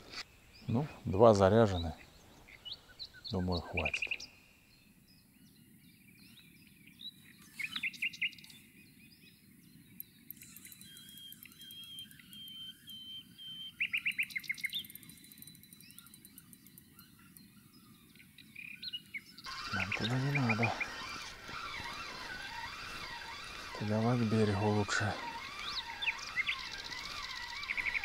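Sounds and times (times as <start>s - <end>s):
birds singing and chirping: 0.0s - 28.0s
low steady background noise: 0.0s - 28.0s
long steady bird whistle: 2.7s - 28.0s.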